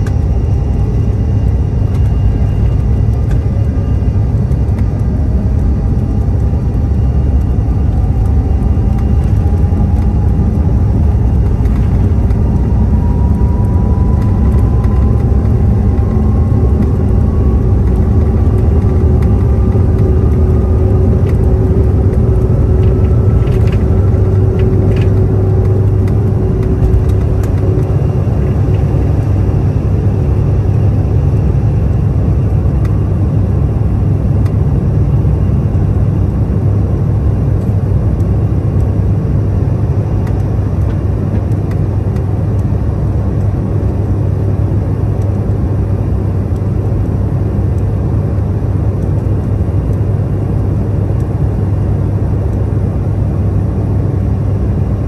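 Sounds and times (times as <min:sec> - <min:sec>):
cabin rumble: 0:00.0 - 0:44.3
jet engines at takeoff thrust: 0:00.0 - 0:55.0
rising whine: 0:00.0 - 0:55.0.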